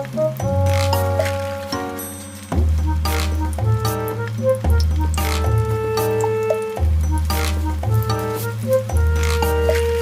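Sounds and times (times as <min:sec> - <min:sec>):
looping instrumental music: 0:00.0 - 0:10.0.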